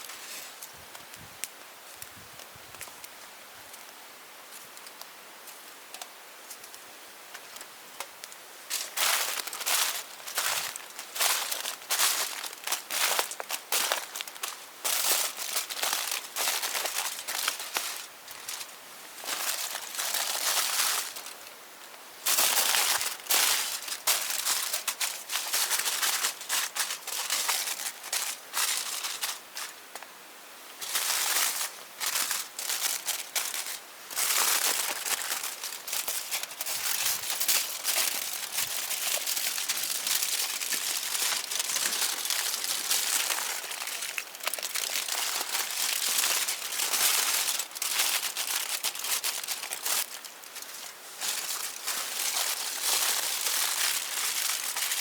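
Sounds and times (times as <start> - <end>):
crinkling and rustling: 8.7 - 21.5, 22.2 - 30.1, 30.8 - 55.0.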